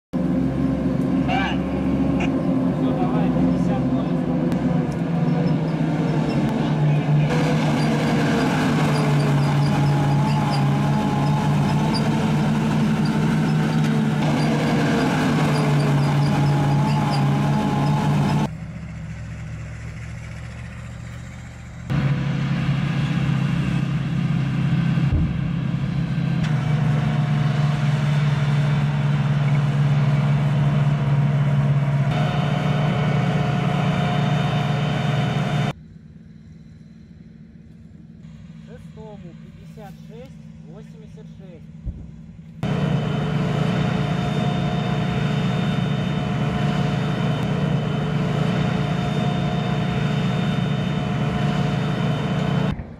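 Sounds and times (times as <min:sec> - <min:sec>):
heavy truck engine droning: 0:00.1 - 0:35.9, 0:37.0 - 0:52.9.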